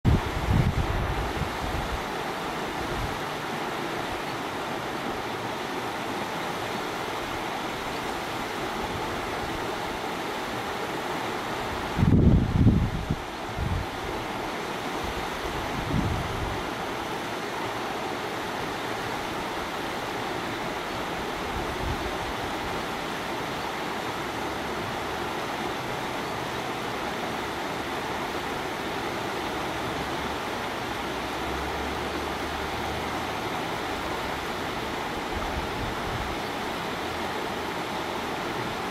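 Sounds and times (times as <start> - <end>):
stream rushing over stones: 0.1 - 38.9.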